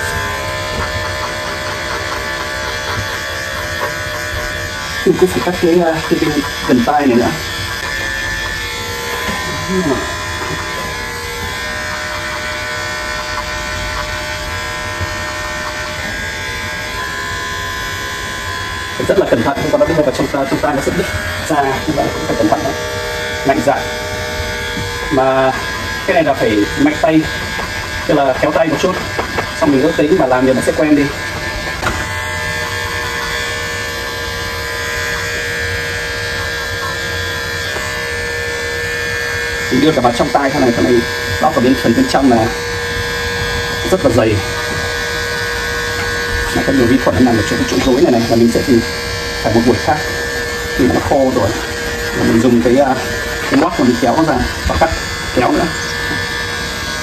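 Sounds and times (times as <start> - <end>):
electric clippers buzzing: 0.0 - 57.0.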